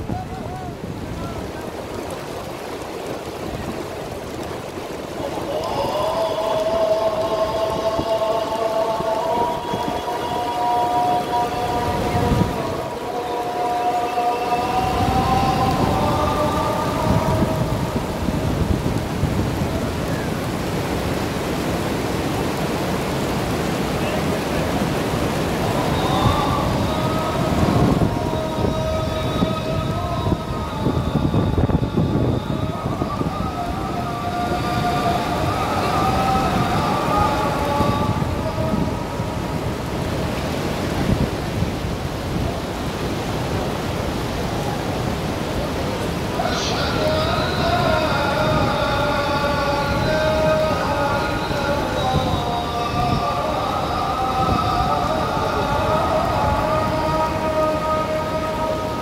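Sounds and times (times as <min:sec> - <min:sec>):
wind buffeting microphone: 0:00.0 - 0:13.8, 0:14.6 - 0:59.0
rain falling on stone: 0:00.0 - 0:59.0.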